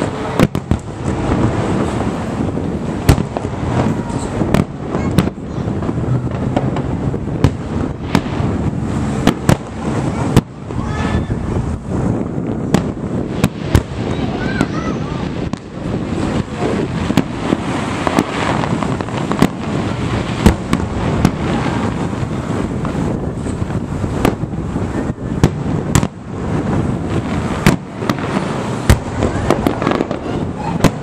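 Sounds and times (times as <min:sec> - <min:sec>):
background rumble: 0:00.0 - 0:31.0
fireworks bangs: 0:00.0 - 0:31.0.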